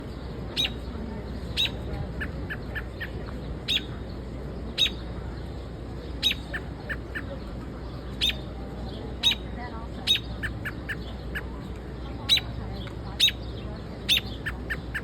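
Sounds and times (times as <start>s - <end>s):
bird chirping: 0.0s - 4.1s, 4.7s - 5.1s, 6.0s - 8.5s, 9.2s - 15.0s.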